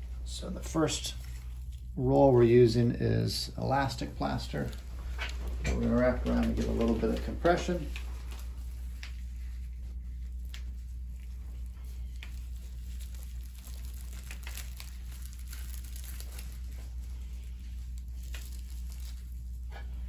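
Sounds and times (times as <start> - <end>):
plastic wrap crinkling: 0.0 - 20.0
steady low hum: 0.0 - 20.0.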